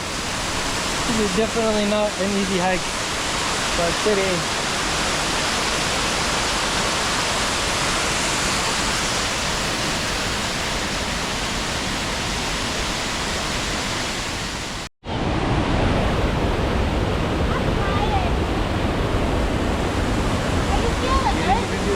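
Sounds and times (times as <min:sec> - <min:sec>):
fast-flowing water rushing: 0:00.0 - 0:21.9.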